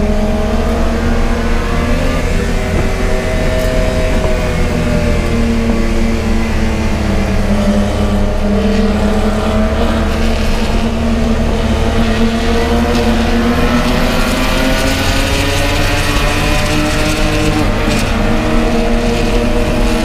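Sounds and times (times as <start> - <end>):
race car engine at high revs: 0.0 - 20.0.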